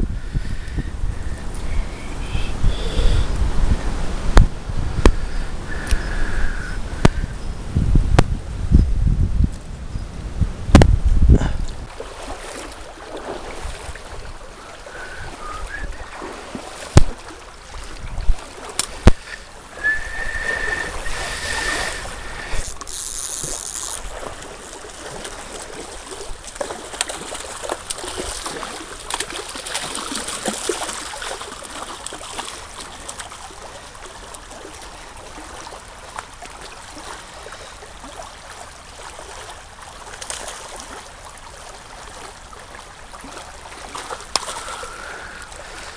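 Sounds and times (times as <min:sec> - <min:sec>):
stream running over stones: 0:00.0 - 0:45.9.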